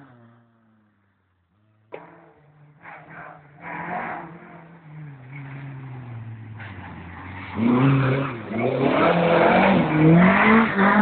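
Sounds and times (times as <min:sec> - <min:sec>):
rally car engine revving: 0:01.6 - 0:11.0.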